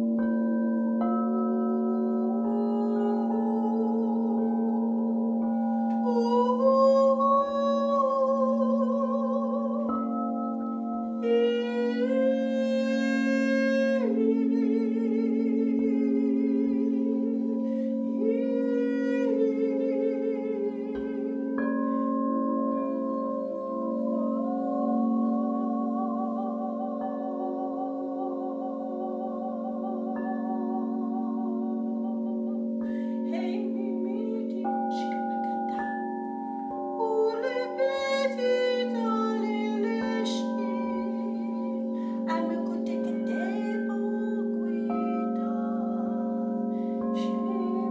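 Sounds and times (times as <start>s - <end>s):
singing bowls ringing: 0.0s - 47.9s
woman singing wordless tones: 1.0s - 47.9s.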